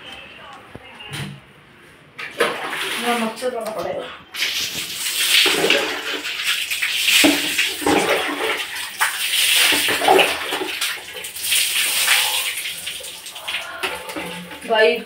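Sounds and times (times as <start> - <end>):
tap water running and splashing: 2.3 - 15.0.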